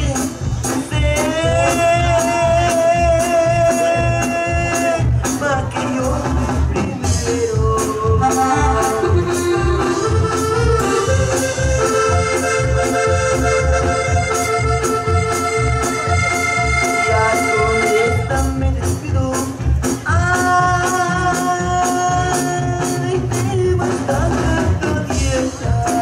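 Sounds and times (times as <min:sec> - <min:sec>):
latin dance band playing: 0:00.0 - 0:26.0.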